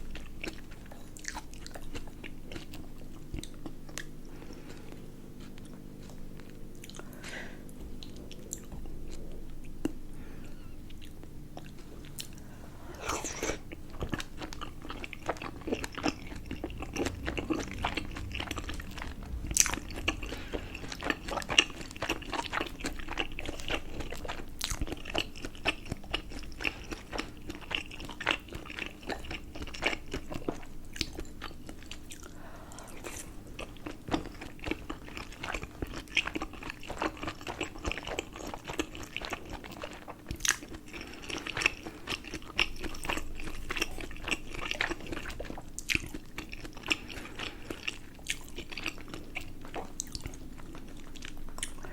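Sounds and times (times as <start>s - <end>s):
chewing dumplings: 0.0s - 51.9s.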